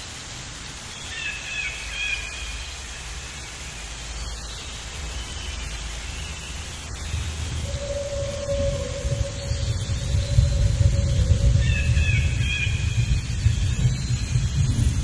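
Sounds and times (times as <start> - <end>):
faint bird chirps: 1.0 - 15.0
low rumble: 2.6 - 15.0.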